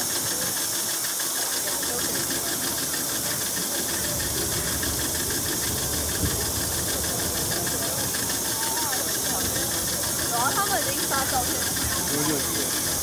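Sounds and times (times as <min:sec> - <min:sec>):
boat motor running: 0:00.0 - 0:13.0
constant hiss: 0:00.0 - 0:13.0.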